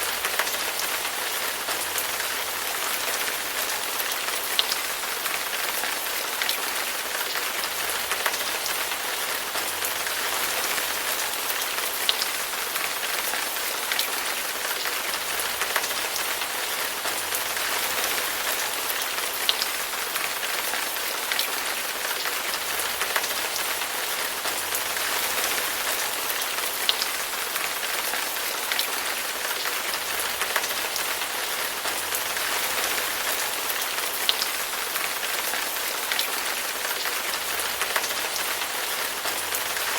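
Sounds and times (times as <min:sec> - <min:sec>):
raindrops ticking: 0:00.0 - 0:39.9
steady rain falling: 0:00.0 - 0:39.9.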